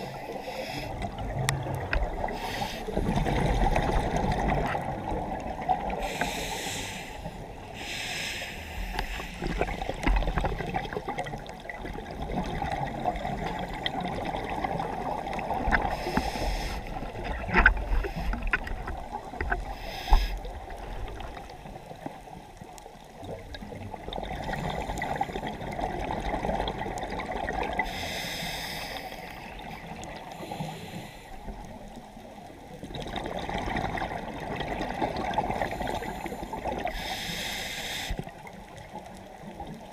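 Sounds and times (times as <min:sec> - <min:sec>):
underwater rushing water: 0:00.0 - 0:39.9.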